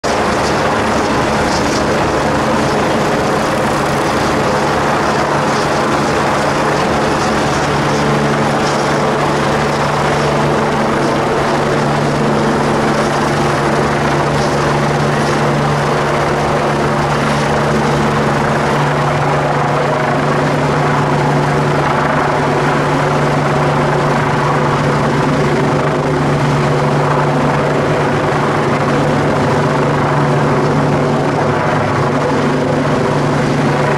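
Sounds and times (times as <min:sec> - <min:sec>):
helicopter hovering: 0:00.0 - 0:33.9.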